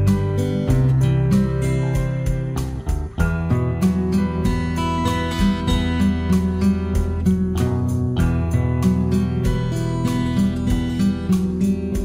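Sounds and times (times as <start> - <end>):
guitar instrumental with beat: 0.0 - 12.0.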